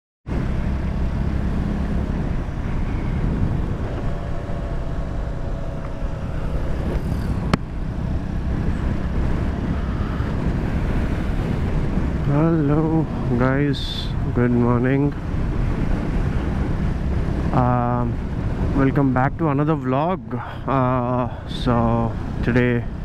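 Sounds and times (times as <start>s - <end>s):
wind rushing: 0.3s - 19.4s
motorcycle engine cruising: 0.3s - 23.0s.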